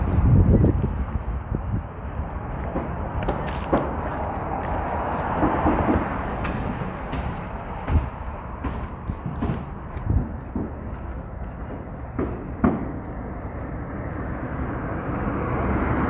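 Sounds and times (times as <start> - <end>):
passing vehicle noise: 0.0 - 16.0.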